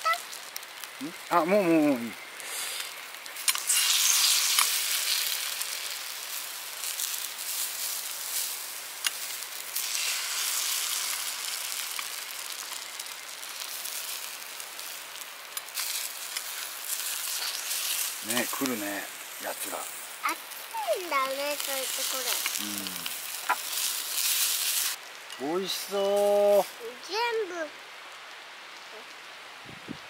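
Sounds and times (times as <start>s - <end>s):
egg sizzling in frying pan: 0.0s - 29.5s.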